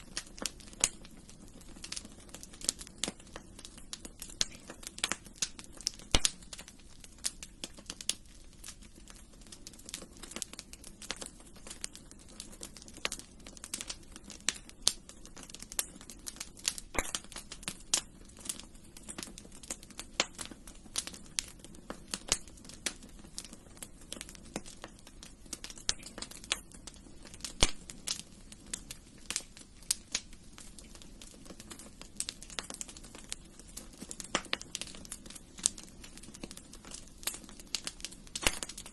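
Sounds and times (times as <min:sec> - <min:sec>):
hiss of flames: 0:00.0 - 0:38.9
wood fire crackling and popping: 0:00.0 - 0:38.9.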